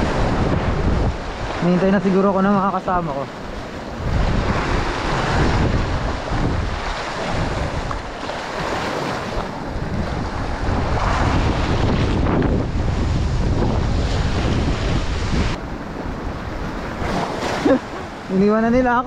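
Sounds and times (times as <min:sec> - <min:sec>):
surf on the shore: 0:00.0 - 0:19.0
wind buffeting microphone: 0:00.0 - 0:19.0.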